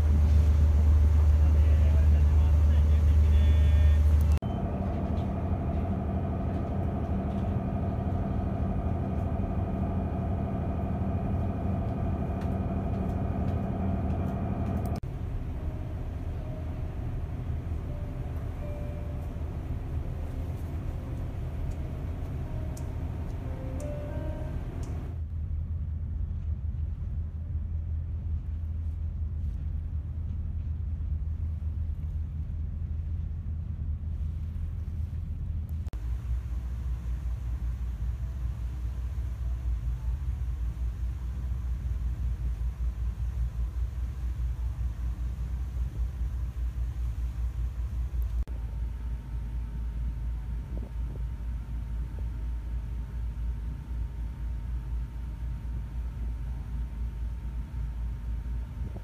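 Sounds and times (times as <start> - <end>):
boat machinery hum: 0.0 - 59.0.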